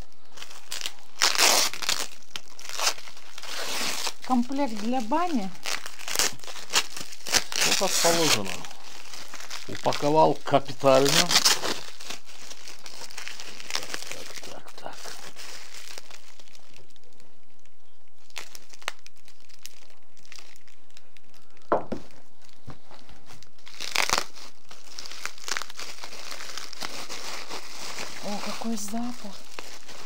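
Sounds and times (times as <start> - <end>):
packaging crinkling and rustling: 0.0 - 30.0
packaging ripping: 0.0 - 30.0.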